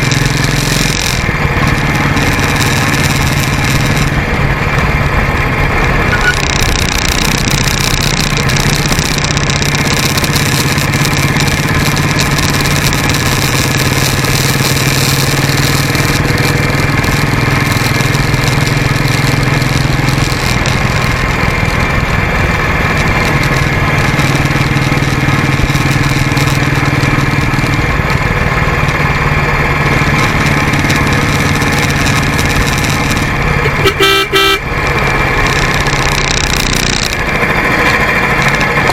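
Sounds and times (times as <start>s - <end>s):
constant rushing noise: 0.0s - 38.9s
motorcycle engine running: 0.0s - 38.9s.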